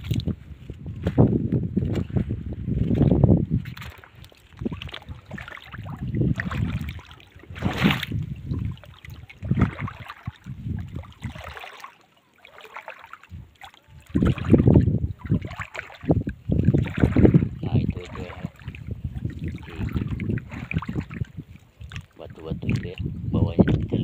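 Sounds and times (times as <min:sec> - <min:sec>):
wind buffeting microphone: 0:00.0 - 0:11.6, 0:13.3 - 0:24.0.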